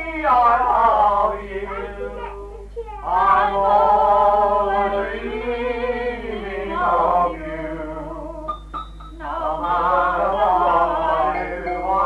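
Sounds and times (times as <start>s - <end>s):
person singing wavering melody: 0.0s - 8.5s, 9.1s - 12.0s
low steady hum: 0.0s - 12.0s.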